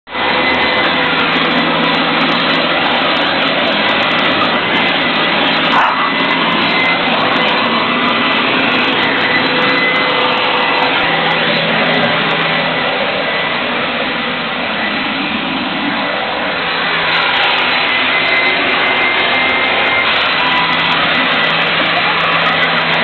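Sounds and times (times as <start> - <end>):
leaf blower running: 0.1 - 23.0.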